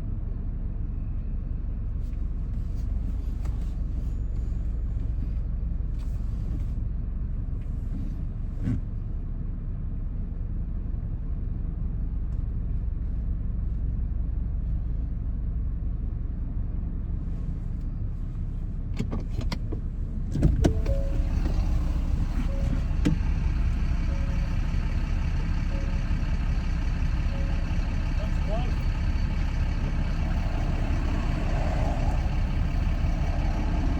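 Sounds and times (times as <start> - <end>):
vehicle engine idling: 0.2 - 33.9.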